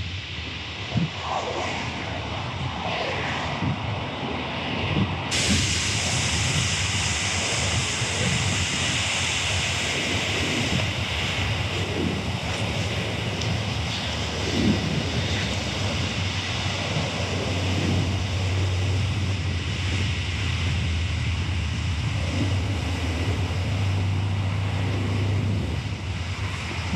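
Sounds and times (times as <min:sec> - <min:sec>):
wind on microphone: 0:00.0 - 0:26.9
surf washing over rocks: 0:05.3 - 0:26.9.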